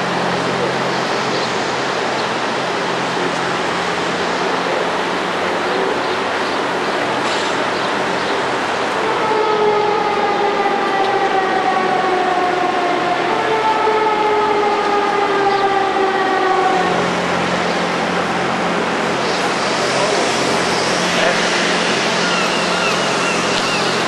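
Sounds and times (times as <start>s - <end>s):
city traffic: 0.0s - 24.0s.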